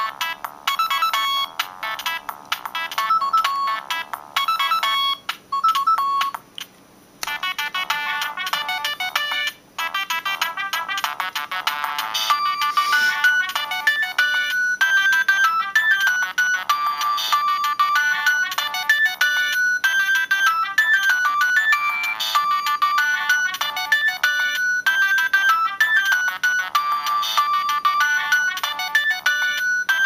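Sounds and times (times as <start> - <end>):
mobile phone ringtone: 0.0 - 6.4, 7.3 - 30.0.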